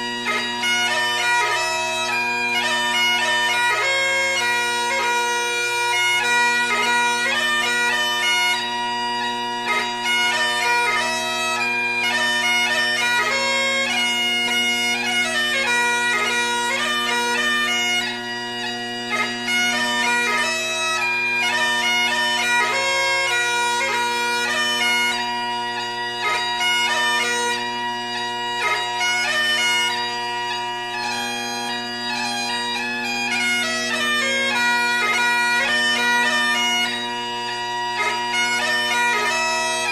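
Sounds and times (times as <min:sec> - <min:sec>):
bagpipe music: 0:00.0 - 0:39.9.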